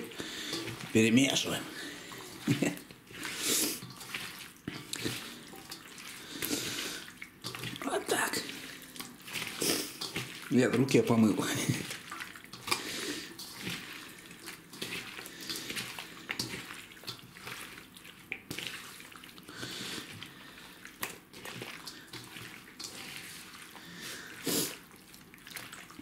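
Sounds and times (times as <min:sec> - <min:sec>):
hand squelching through marinade: 0:00.0 - 0:26.0.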